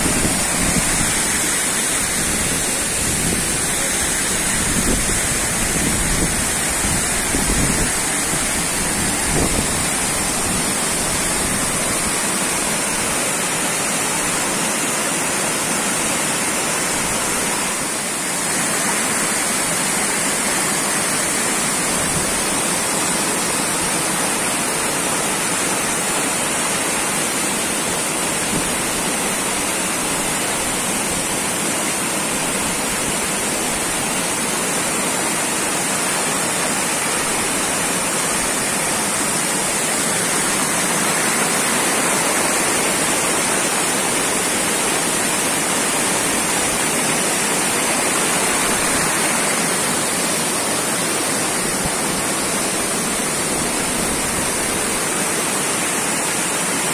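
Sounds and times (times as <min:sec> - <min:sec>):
waterfall rushing and splashing: 0:00.0 - 0:56.9.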